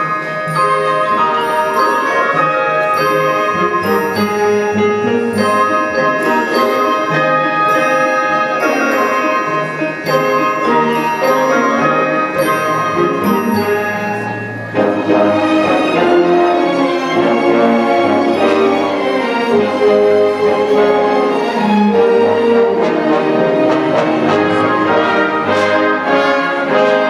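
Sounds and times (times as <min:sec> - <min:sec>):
bright bell-like notes: 0:00.0 - 0:26.8
orchestra playing: 0:00.0 - 0:27.0.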